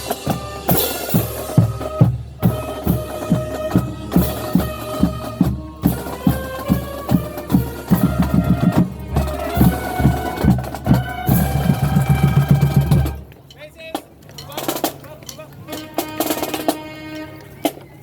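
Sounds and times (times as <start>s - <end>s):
marching drums beat: 0.0s - 13.3s, 13.9s - 17.8s
wind and brass chords: 0.0s - 13.3s, 15.7s - 17.6s.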